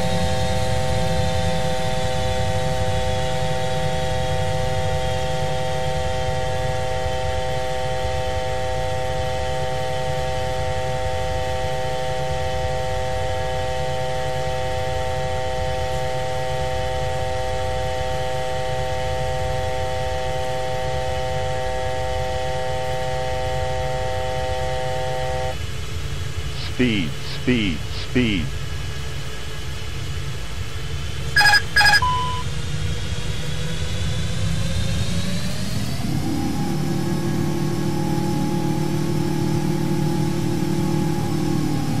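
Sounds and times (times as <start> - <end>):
high engine whine: 0.0 - 42.0.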